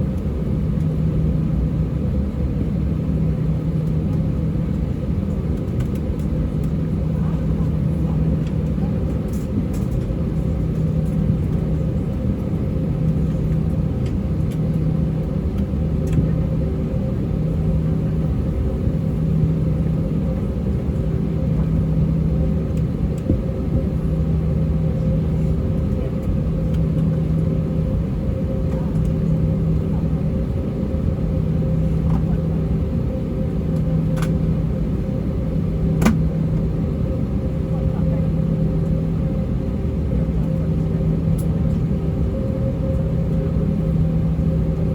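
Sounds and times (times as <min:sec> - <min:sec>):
aircraft engines idling: 0:00.0 - 0:44.9.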